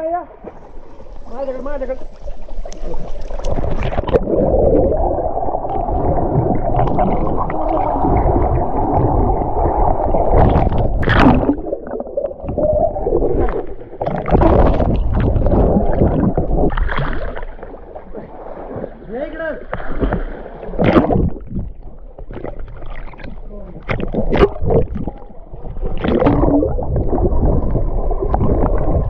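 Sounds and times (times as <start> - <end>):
underwater churning and bubbling: 0.0 - 29.0.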